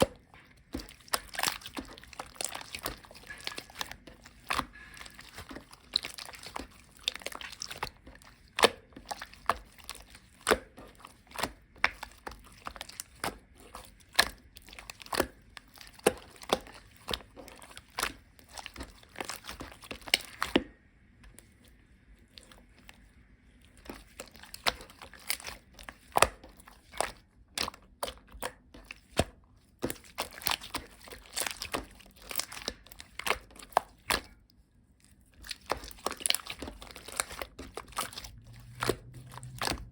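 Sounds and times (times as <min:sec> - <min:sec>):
slime squished by hand: 0:00.0 - 0:21.5, 0:22.3 - 0:39.9.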